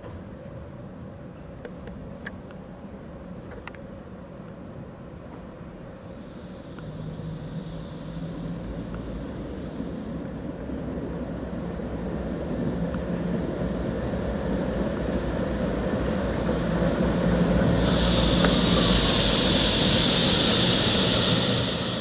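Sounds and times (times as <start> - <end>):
tram low hum: 0.0 - 22.0
tram wheels rumbling on rails: 0.0 - 22.0
high steady hiss: 4.0 - 22.0.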